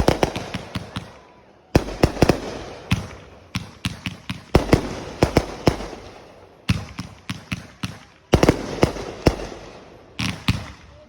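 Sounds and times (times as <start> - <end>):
fireworks banging: 0.0 - 10.9.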